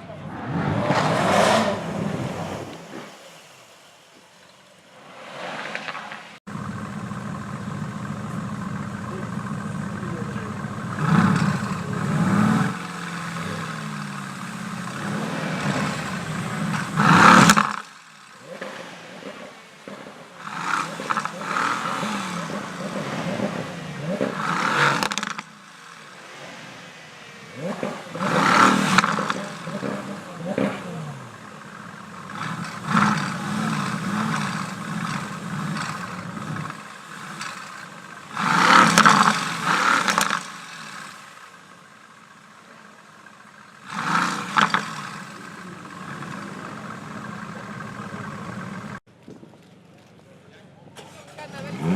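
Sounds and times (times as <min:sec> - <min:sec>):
car engines revving and accelerating: 0:00.0 - 0:49.1, 0:51.0 - 0:51.9.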